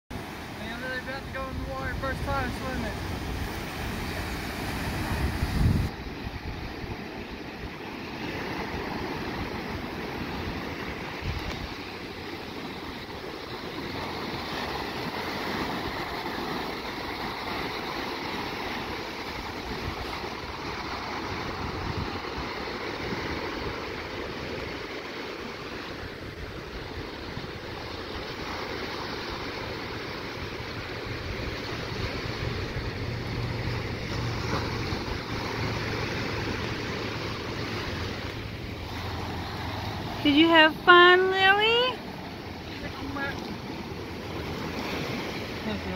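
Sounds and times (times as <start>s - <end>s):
ocean surf breaking: 0.1s - 45.9s
wind buffeting microphone: 0.3s - 45.9s.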